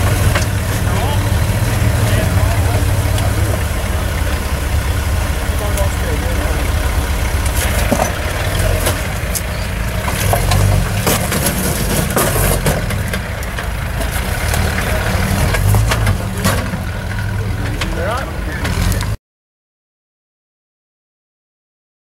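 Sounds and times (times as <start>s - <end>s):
engine running at crawling speed: 0.0s - 19.2s.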